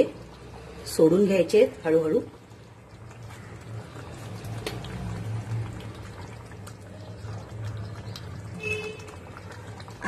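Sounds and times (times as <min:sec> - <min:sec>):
thick gravy bubbling and popping: 0:00.0 - 0:10.0.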